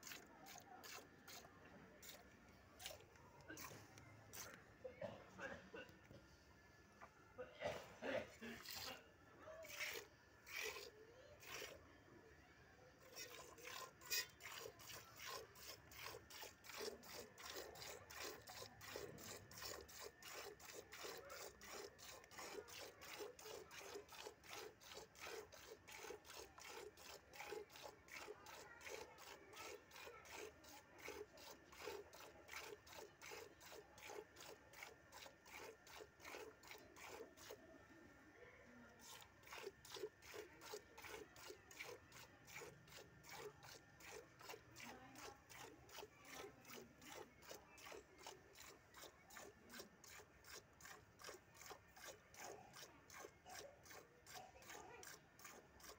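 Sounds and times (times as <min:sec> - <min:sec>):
milk squirting into steel bowl: 0:00.0 - 0:04.6, 0:08.4 - 0:11.8, 0:13.0 - 0:37.9, 0:38.9 - 0:55.9.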